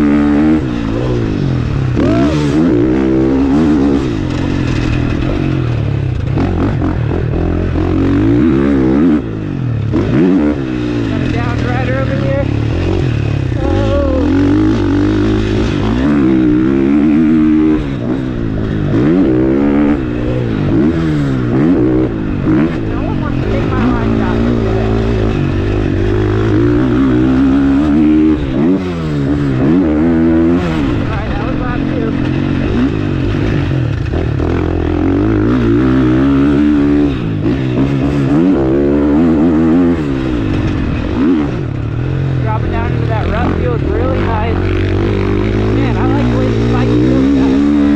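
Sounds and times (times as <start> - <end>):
motocross engine revving: 0.0 - 47.9.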